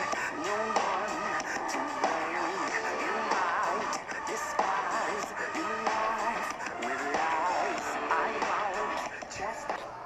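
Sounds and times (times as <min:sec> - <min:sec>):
background music with bending melody: 0:00.0 - 0:10.0.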